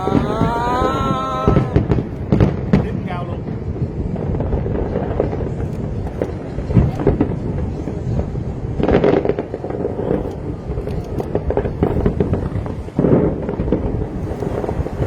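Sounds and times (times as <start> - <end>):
fireworks crackling: 0.0 - 15.0
heavy firework bursts: 0.0 - 15.0.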